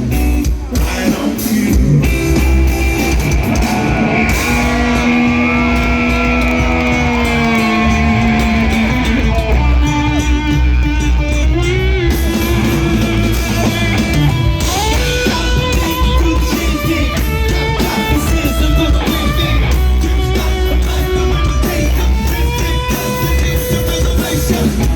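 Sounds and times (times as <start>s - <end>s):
rock band playing: 0.0s - 24.9s
electric guitar lead notes: 1.9s - 24.9s.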